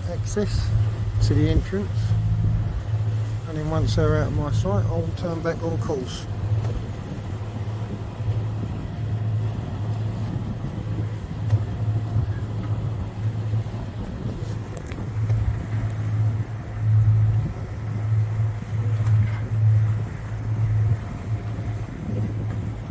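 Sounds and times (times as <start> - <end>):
boat engine droning: 0.0 - 22.9
wind and water rushing: 0.0 - 22.9.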